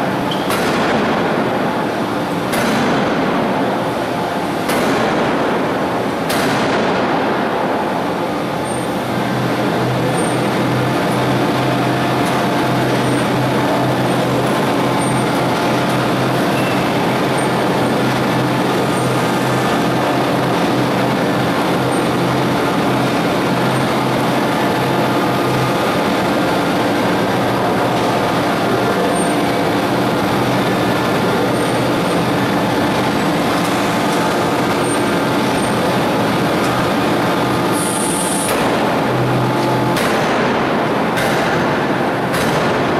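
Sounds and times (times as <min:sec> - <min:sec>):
loud machine running: 0:00.0 - 0:42.9.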